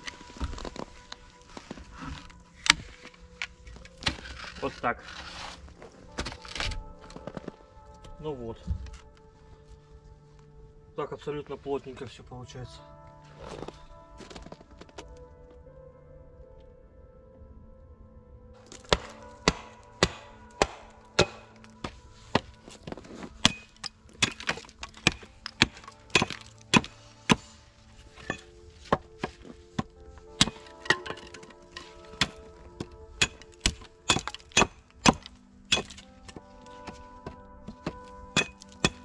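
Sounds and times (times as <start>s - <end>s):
background music: 0.0s - 39.0s.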